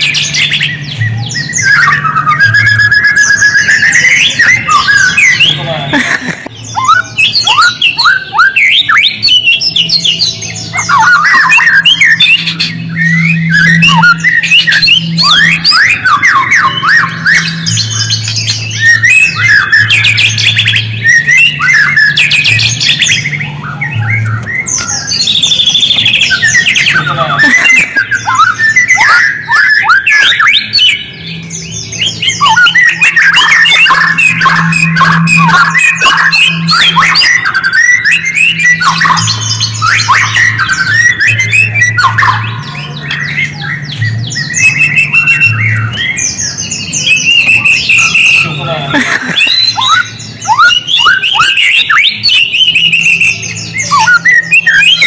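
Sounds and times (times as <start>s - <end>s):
bird chattering: 0.0s - 55.0s.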